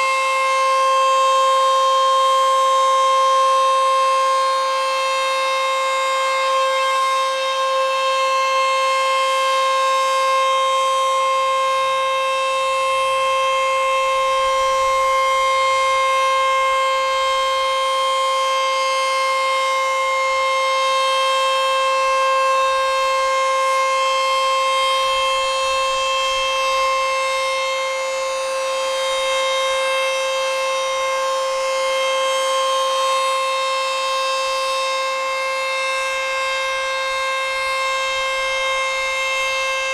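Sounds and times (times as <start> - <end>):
steady warning siren: 0.0 - 39.9.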